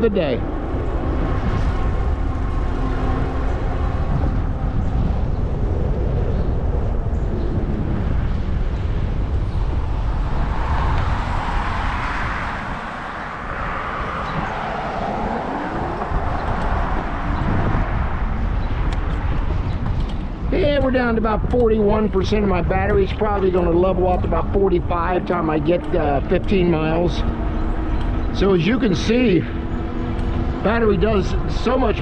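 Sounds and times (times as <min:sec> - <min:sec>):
tyre and drivetrain noise: 0:00.0 - 0:32.0
wind rushing over microphone: 0:00.0 - 0:32.0.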